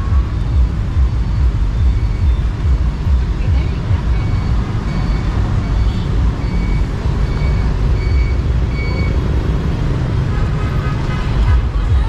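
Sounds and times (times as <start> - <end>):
high electronic beep: 0.0 - 9.9
street traffic rumble: 0.0 - 12.0.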